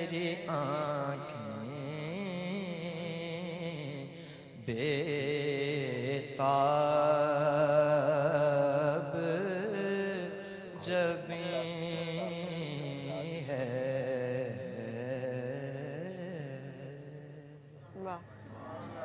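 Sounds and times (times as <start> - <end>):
man singing into a microphone: 0.0 - 17.7.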